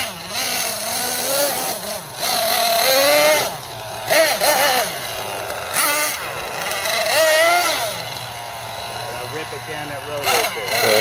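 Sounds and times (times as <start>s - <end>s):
small engine revving at high revs: 0.0s - 11.0s.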